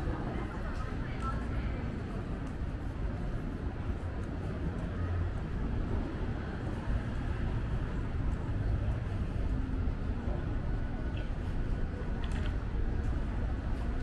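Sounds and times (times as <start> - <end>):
crowd noise: 0.0 - 14.0
low rumble of traffic: 0.0 - 14.0.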